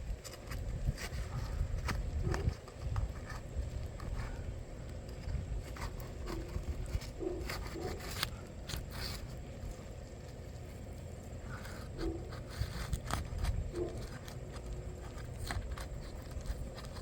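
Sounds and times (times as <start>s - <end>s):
scraping on roof shingle: 0.2s - 9.5s, 11.4s - 17.0s.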